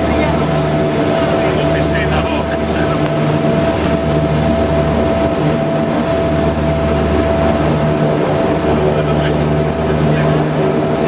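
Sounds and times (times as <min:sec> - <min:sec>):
propeller drone: 0:00.0 - 0:11.0
turboprop engine whine: 0:00.0 - 0:11.0.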